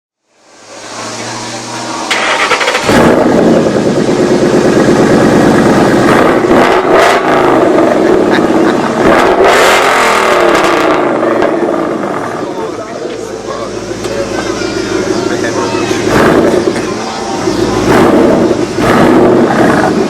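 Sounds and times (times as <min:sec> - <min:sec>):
car engine revving: 0:00.3 - 0:20.0.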